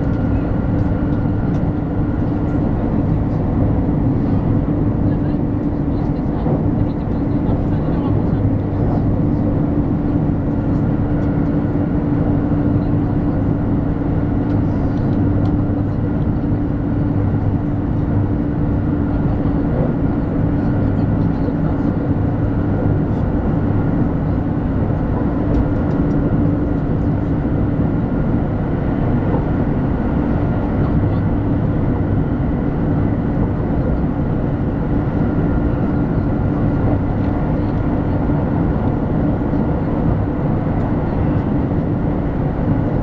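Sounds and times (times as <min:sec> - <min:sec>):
train cabin running rumble: 0:00.0 - 0:43.0.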